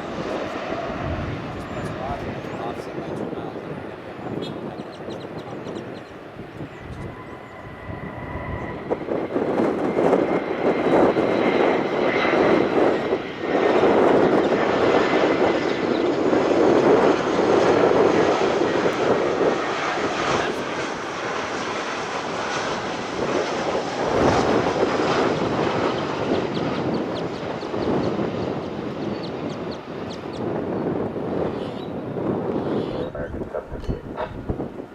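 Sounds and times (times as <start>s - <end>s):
jet engines rumbling and whining: 0.0s - 34.9s.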